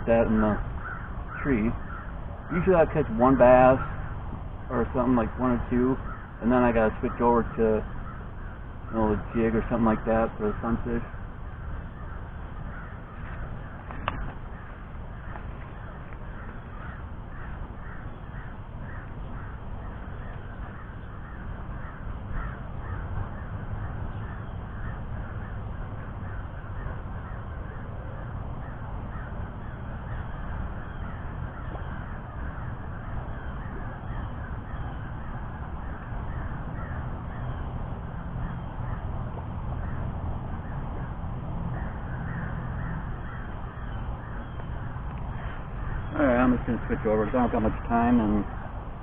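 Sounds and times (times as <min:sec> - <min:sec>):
short bird calls: 0:00.0 - 0:48.8.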